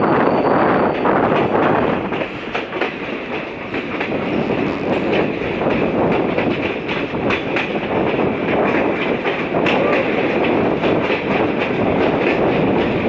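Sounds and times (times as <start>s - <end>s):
rush of train wheels and wind: 0.0s - 13.0s
wheels clicking over rail joints: 1.2s - 13.0s.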